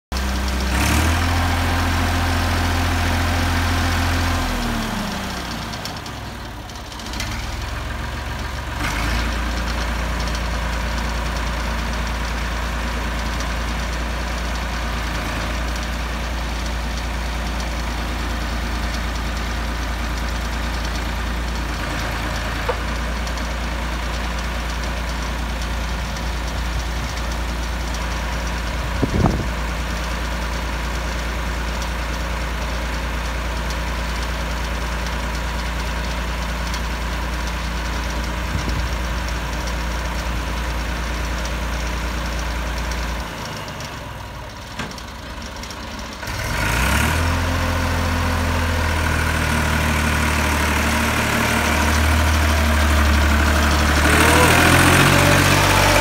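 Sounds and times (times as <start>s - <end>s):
forklift engine revving and idling: 0.1s - 56.0s.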